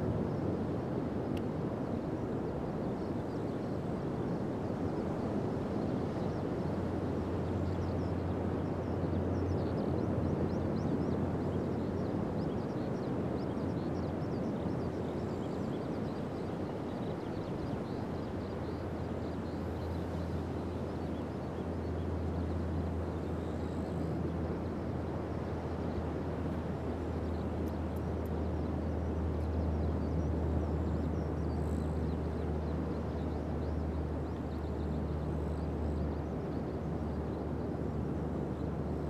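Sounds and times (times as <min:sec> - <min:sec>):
low surf rumble: 0:00.0 - 0:39.0.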